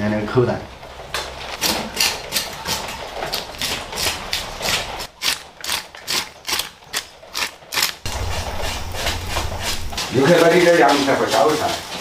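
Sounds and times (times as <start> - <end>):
cleaver scraping fish scales: 1.6 - 12.0.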